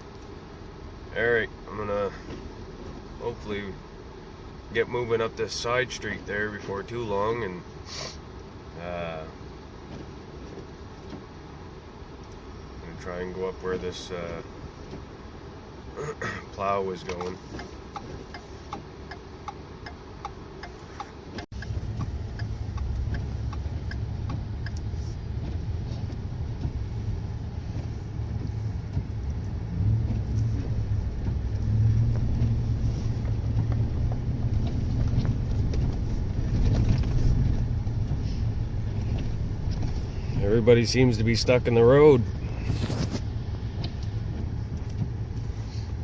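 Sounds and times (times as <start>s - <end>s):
truck engine and tyres rumbling: 0.0s - 46.0s.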